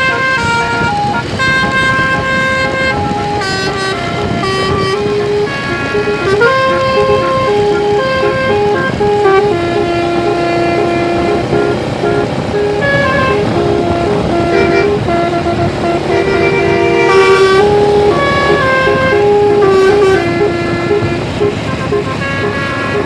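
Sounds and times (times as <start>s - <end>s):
multi-tone bus horn playing tune: 0.0s - 23.0s.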